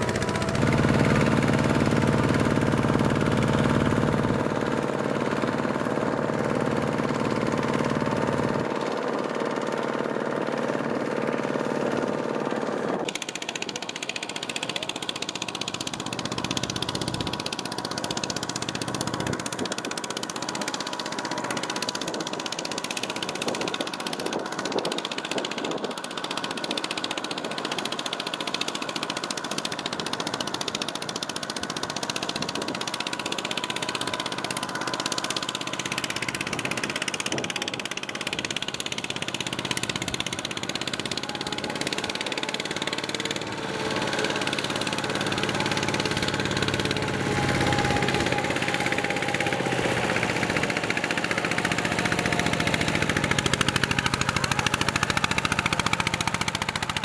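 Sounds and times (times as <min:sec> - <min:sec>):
diesel engine running: 0:00.0 - 0:24.6, 0:28.8 - 0:57.0.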